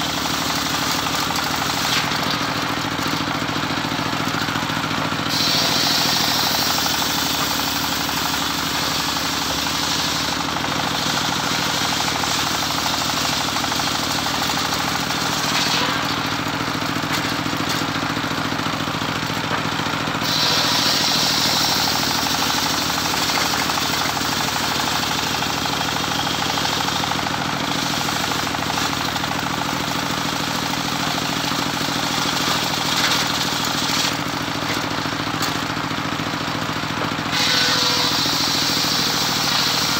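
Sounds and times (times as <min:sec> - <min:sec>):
saw blade cutting wood: 0:00.0 - 0:02.6, 0:05.2 - 0:17.9, 0:20.2 - 0:35.8, 0:37.2 - 0:39.9
sawmill engine running: 0:00.0 - 0:39.9.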